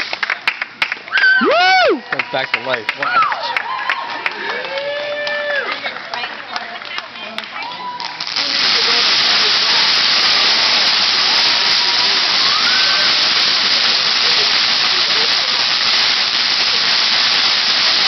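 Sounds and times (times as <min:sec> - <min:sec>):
firework fountain hissing: 0:00.0 - 0:03.5, 0:04.2 - 0:18.0.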